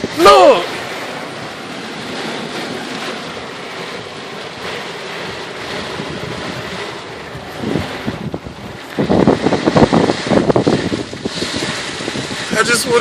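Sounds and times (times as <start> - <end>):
heavy rain: 0.0 - 13.0
storm wind: 0.0 - 13.0.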